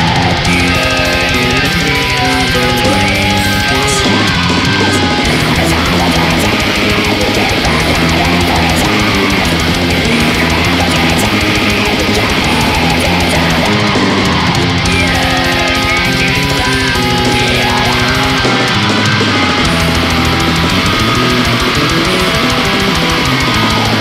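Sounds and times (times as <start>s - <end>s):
bass guitar: 0.0s - 24.0s
distorted electric guitars: 0.0s - 24.0s
fast dense drumming: 0.0s - 24.0s.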